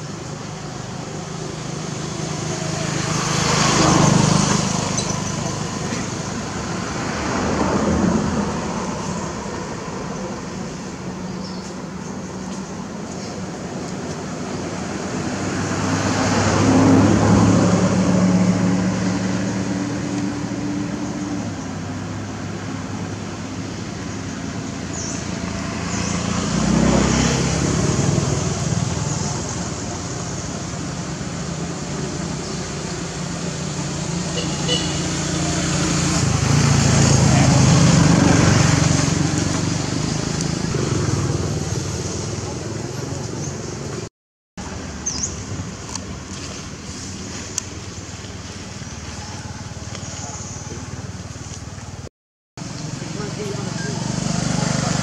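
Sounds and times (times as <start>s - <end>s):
broad rushing noise: 0.0s - 55.0s
outdoor background noise: 0.0s - 55.0s.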